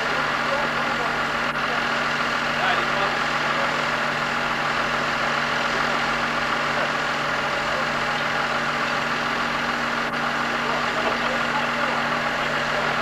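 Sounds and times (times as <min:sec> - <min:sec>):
crane engine idling: 0:00.0 - 0:13.0.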